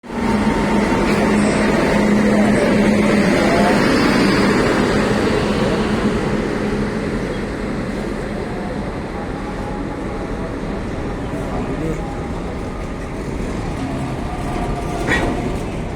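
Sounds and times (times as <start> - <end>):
train rumbling: 0.0 - 15.9.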